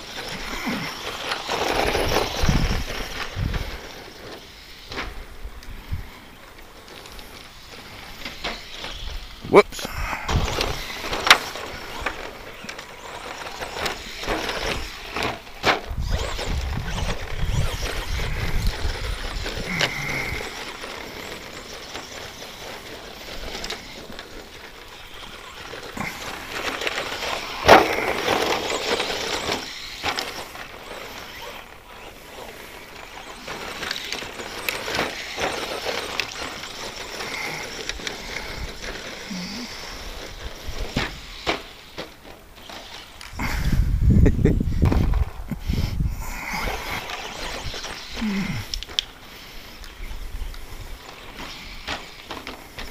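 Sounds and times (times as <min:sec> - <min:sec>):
tyre noise on dirt: 0:00.0 - 0:52.9
electric motor whine: 0:10.2 - 0:52.9.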